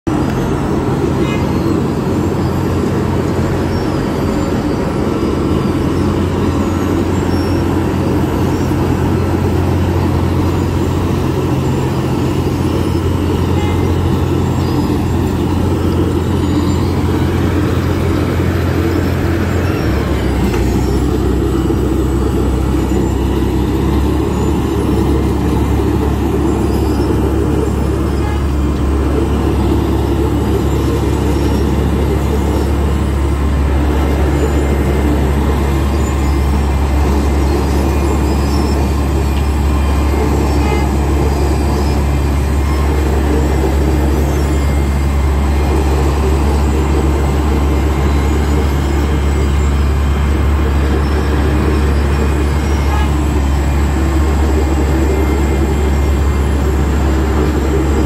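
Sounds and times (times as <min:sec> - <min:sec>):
diesel machine drone: 0:00.0 - 0:58.0.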